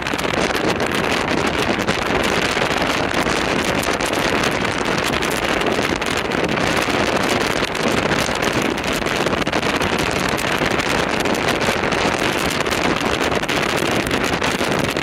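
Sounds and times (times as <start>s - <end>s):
microphone buffeting: 0.0s - 15.0s
wind rush: 0.0s - 15.0s.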